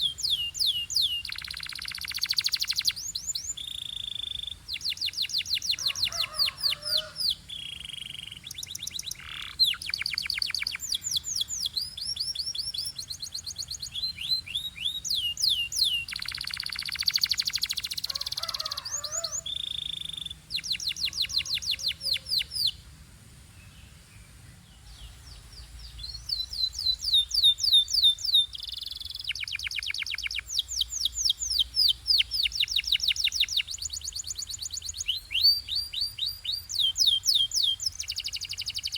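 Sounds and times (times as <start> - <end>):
canary singing trills: 0.0 - 22.8, 24.8 - 38.9.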